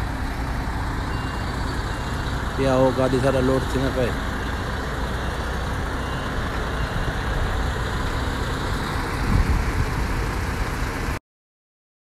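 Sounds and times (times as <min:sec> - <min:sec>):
truck engine rumbling: 0:00.0 - 0:11.2.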